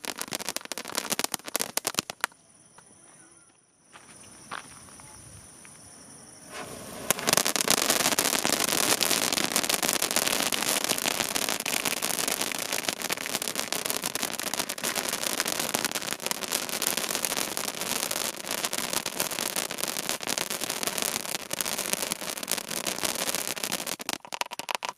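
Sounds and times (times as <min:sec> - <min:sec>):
fireworks crackling hiss of sparks: 0:00.0 - 0:02.4, 0:06.3 - 0:24.9.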